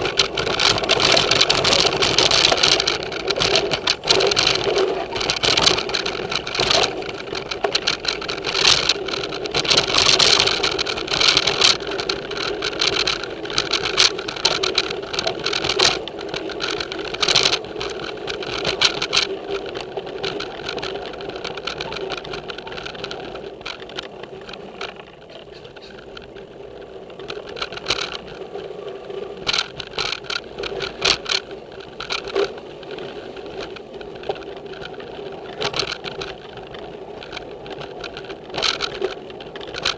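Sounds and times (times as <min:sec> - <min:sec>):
bike rattling and knocking: 0:00.0 - 0:39.9
tyre roar on dirt trail: 0:00.0 - 0:39.9.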